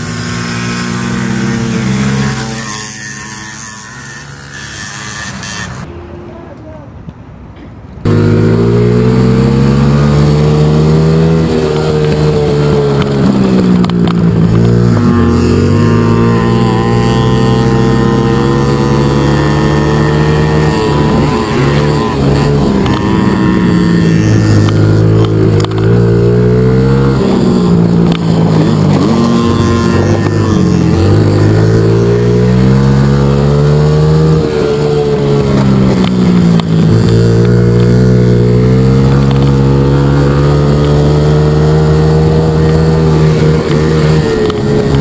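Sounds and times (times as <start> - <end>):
mini-bike engine revving: 0.0 - 5.9, 8.0 - 45.0.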